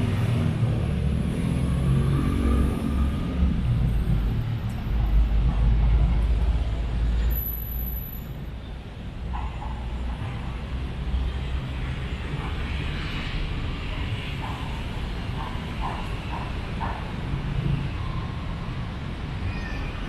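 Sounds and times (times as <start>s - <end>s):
steady traffic rumble: 0.0s - 20.0s.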